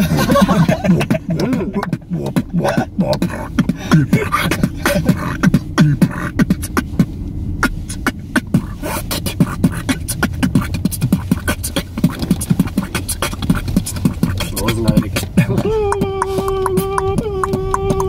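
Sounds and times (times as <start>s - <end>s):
low hummed notes: 0.0s - 18.0s
man beatboxing: 0.0s - 18.0s.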